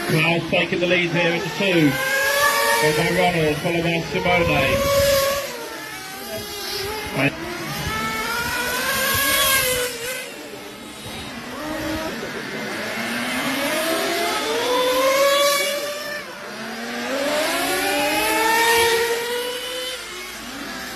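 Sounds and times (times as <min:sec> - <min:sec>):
model motorcycle motors whining: 0:00.0 - 0:20.9.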